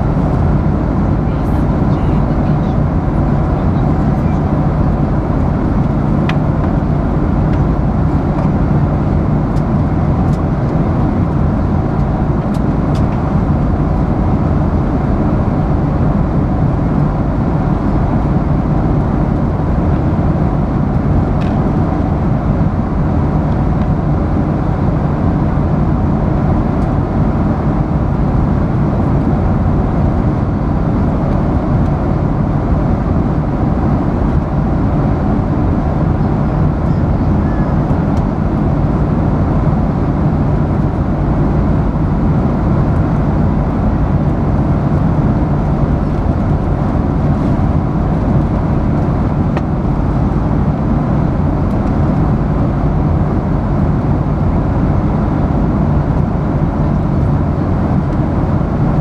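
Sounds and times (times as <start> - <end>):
airliner cabin engine rush: 0.0 - 59.0.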